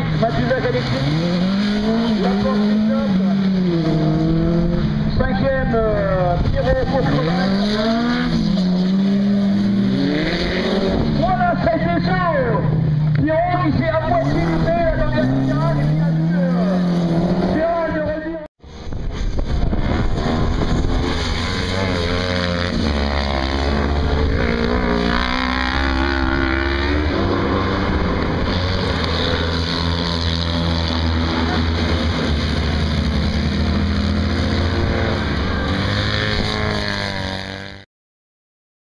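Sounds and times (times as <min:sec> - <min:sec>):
racing buggy engines: 0:00.0 - 0:37.8.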